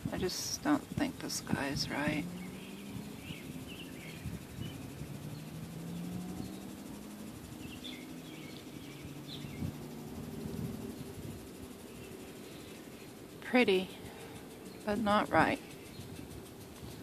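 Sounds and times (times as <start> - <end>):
distant machinery drone: 0.0 - 17.0
bird chirps: 1.6 - 17.0.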